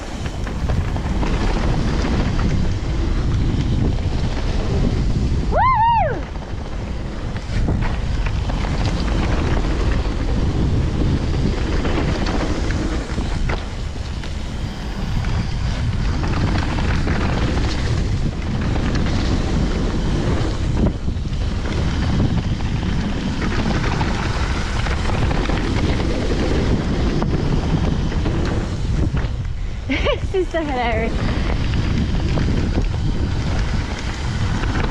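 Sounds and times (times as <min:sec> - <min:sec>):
bike knocks and rattles: 0:00.0 - 0:05.2, 0:06.3 - 0:30.1
bike tyre noise on trail: 0:00.0 - 0:34.9
wind buffeting microphone: 0:00.0 - 0:34.9.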